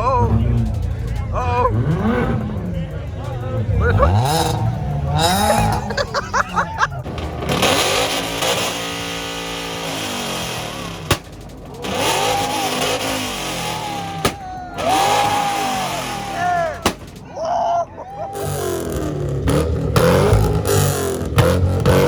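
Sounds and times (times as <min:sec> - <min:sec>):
sharp bangs: 0:00.0 - 0:17.7, 0:18.3 - 0:22.0
car engines revving hard: 0:00.0 - 0:22.0.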